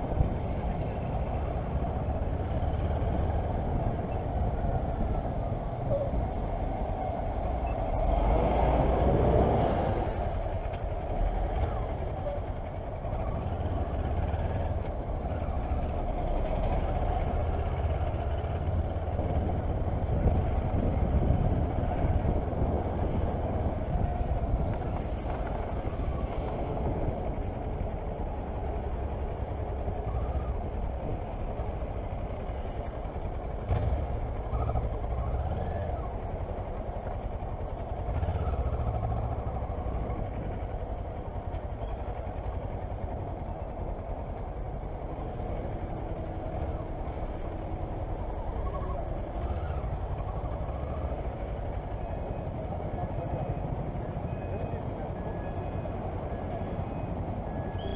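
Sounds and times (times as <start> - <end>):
slow traffic noise: 0.0 - 57.9.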